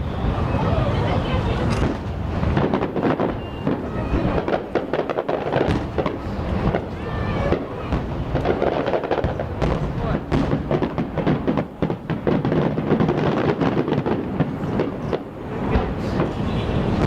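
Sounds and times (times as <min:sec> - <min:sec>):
fireworks bursting and crackling: 0:00.0 - 0:17.0
voices of onlookers: 0:00.0 - 0:17.0.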